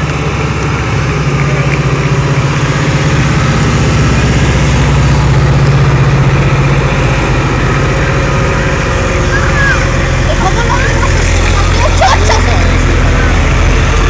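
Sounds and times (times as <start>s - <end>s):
diesel engine passing: 0.0s - 14.0s.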